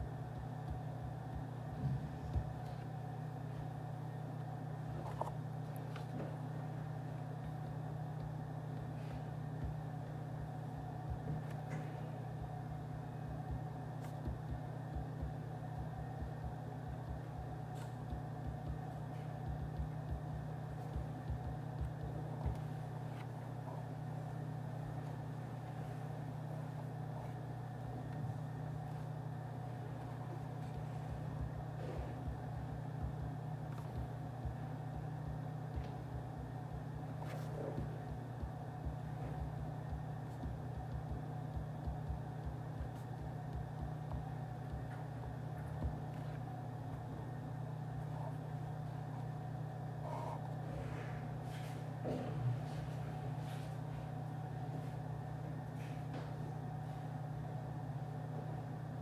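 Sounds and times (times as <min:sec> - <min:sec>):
low office hum: 0:00.0 - 0:59.0.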